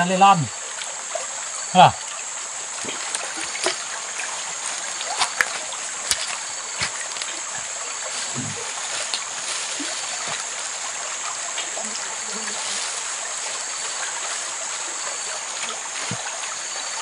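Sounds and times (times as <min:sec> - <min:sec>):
river water running: 0:00.0 - 0:17.0
small splashes: 0:00.6 - 0:17.0.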